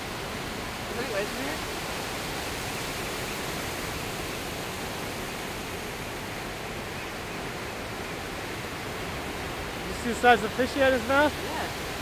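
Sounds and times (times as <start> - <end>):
small waves breaking on sand: 0.0 - 12.0.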